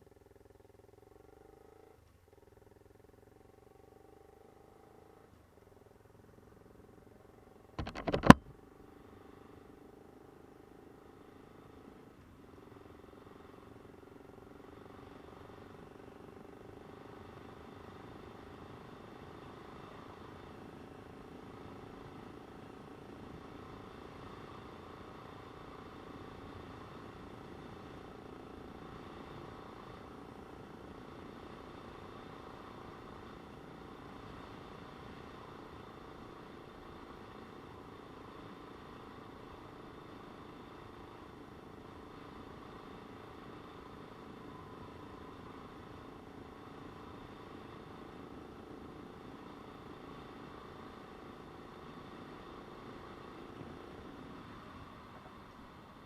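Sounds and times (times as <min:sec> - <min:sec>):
motorcycle engine running steadily: 0:00.0 - 0:56.0
road and wind noise: 0:00.0 - 0:56.0.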